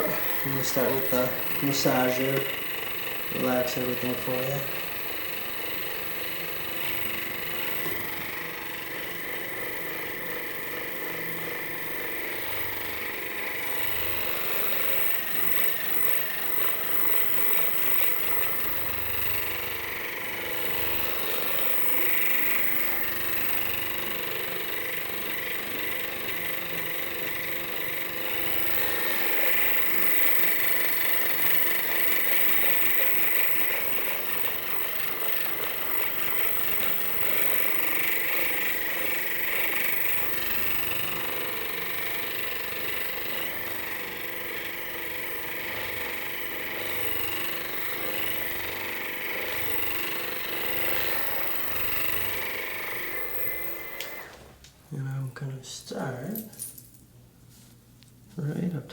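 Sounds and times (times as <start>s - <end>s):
electric massager buzzing: 0.0s - 56.8s.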